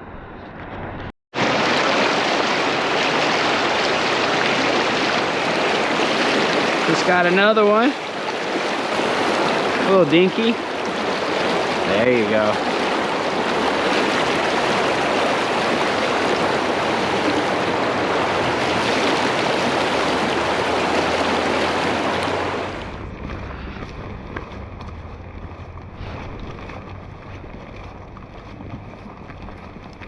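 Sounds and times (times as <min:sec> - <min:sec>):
rushing river water: 0:01.4 - 0:30.0.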